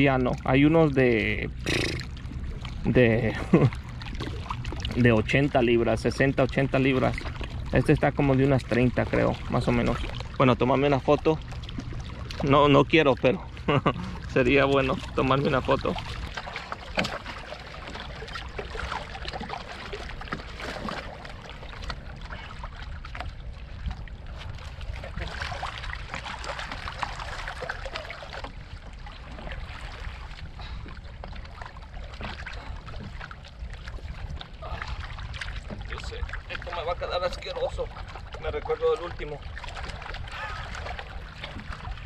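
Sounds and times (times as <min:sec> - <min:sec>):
steady low rumble: 0:00.0 - 0:42.0
water lapping at shore: 0:00.0 - 0:42.0.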